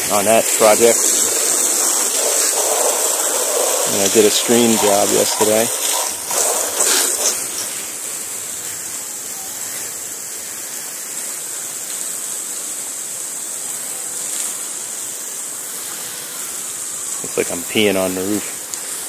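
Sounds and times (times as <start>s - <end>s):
hose spraying water: 0.0s - 19.0s.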